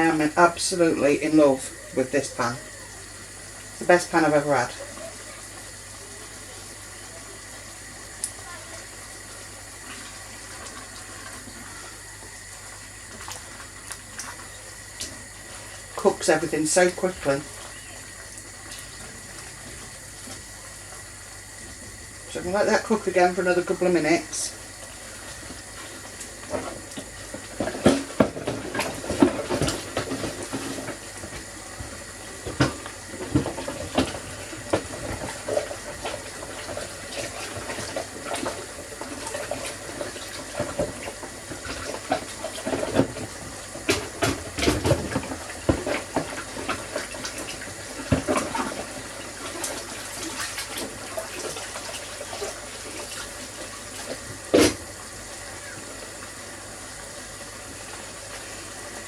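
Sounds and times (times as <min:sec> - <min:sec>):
curry bubbling and sizzling: 0:02.6 - 0:16.3, 0:16.9 - 0:23.8, 0:24.4 - 0:59.0.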